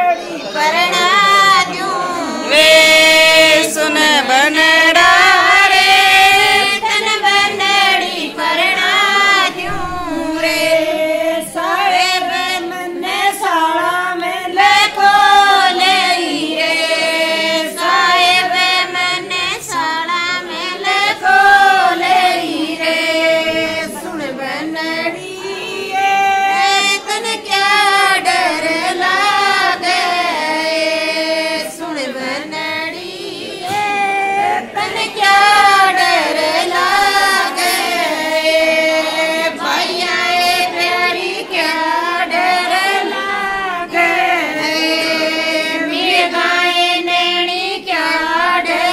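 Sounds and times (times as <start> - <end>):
women singing folk song: 0.0 - 48.9.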